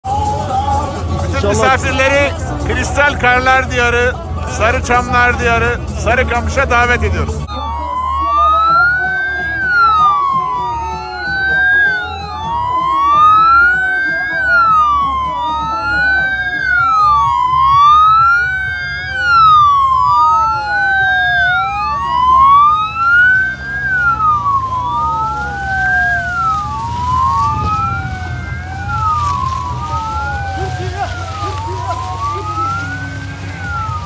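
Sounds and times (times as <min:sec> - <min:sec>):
wailing sirens: 0:00.1 - 0:34.0.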